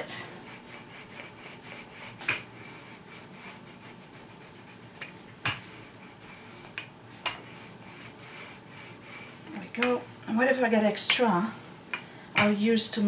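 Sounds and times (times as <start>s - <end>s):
rolling pin rubbing on dough: 0.0s - 13.0s.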